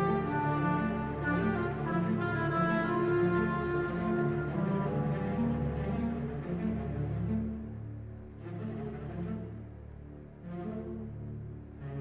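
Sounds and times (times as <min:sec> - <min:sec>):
orchestral music with low notes: 0:00.0 - 0:12.0.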